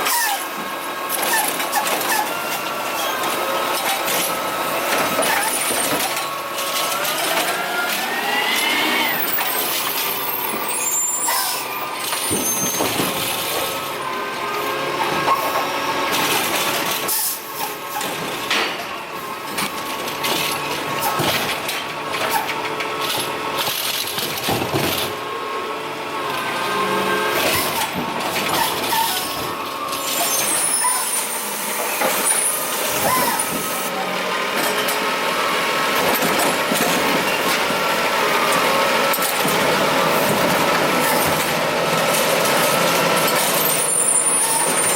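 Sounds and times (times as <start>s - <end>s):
truck engine and hydraulic whine: 0.0s - 44.9s.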